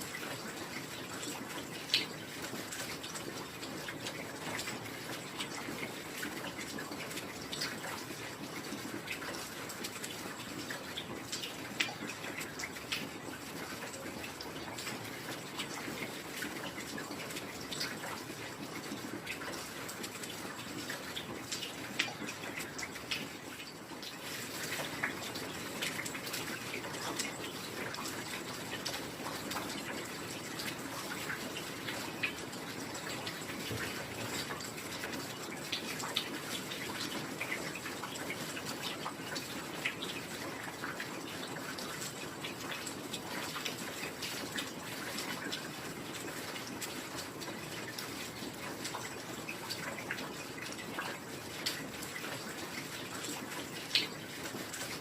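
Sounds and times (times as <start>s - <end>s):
heavy rain: 0.0s - 55.0s
sharp water drips: 0.0s - 55.0s.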